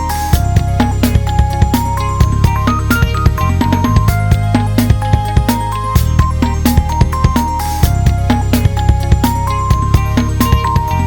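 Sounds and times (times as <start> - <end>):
upbeat music with drums and bass: 0.0 - 11.0.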